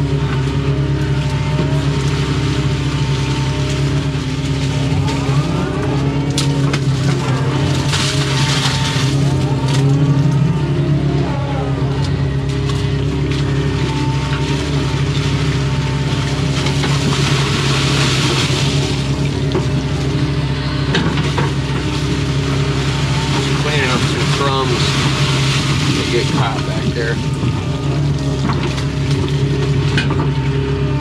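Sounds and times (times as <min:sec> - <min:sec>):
diesel engine running under load: 0:00.0 - 0:31.0
hydraulics whining: 0:00.0 - 0:31.0.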